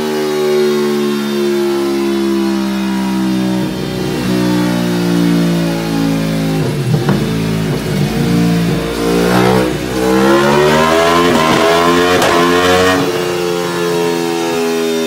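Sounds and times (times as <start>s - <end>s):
motorcycle engine revving on dyno: 0.0s - 15.0s.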